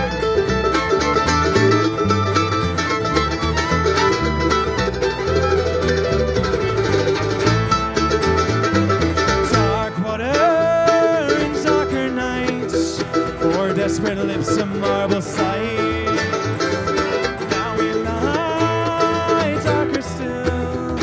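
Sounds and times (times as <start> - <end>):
bass line: 0.0 - 21.0
bluegrass string band: 0.0 - 21.0
picked banjo: 0.0 - 21.0.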